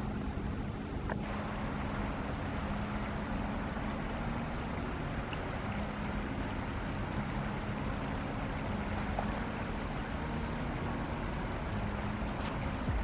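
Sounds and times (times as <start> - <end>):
faint low hum: 0.0 - 13.0
river water rushing: 0.0 - 13.0.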